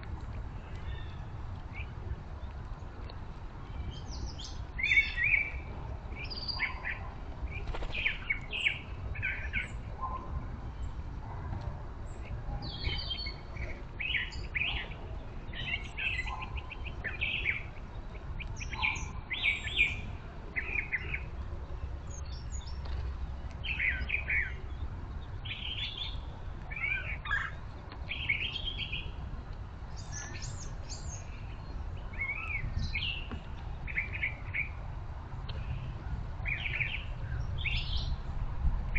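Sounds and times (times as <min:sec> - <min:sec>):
birds chirping and calling: 0:00.5 - 0:29.2, 0:29.9 - 0:34.9, 0:35.5 - 0:38.3.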